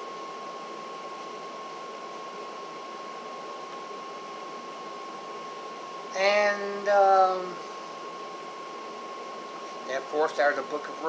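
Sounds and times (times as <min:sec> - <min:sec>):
high-pitched whine: 0:00.0 - 0:11.0.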